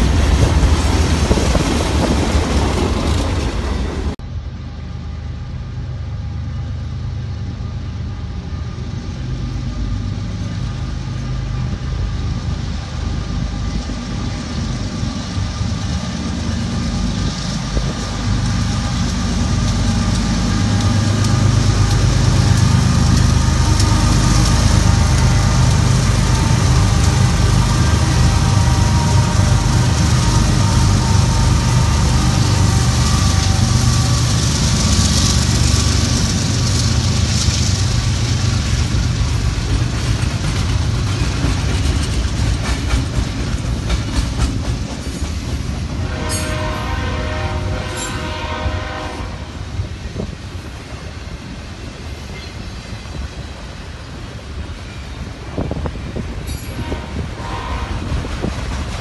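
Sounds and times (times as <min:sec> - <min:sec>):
diesel locomotive engines rumbling: 0:00.0 - 0:59.0
train wheels on rails: 0:00.0 - 0:59.0.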